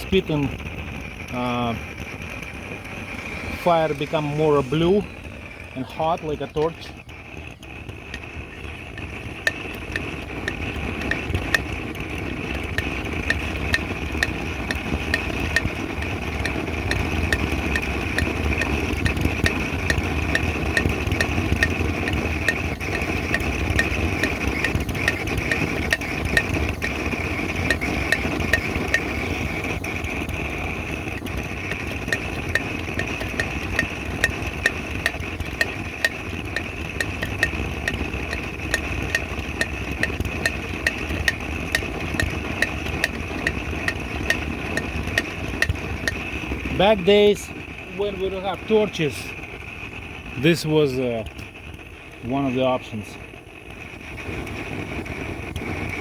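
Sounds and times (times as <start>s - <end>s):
blow torch flame rushing: 0.0s - 56.0s
small crackling pops: 0.0s - 56.0s.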